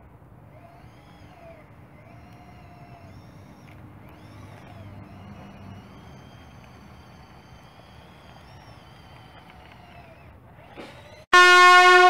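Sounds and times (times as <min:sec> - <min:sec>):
electric motors whining: 0:00.4 - 0:12.0.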